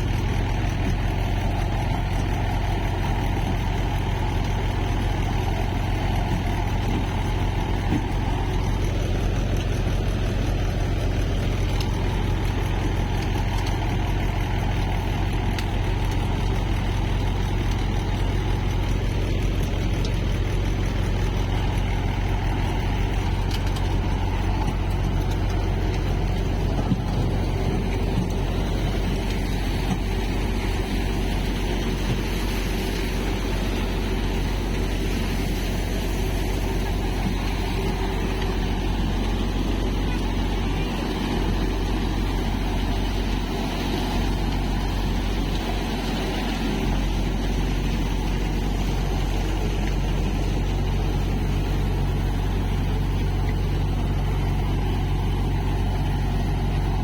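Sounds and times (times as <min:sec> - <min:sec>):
thresher machine noise: 0:00.0 - 0:57.0
tractor engine humming: 0:00.0 - 0:57.0.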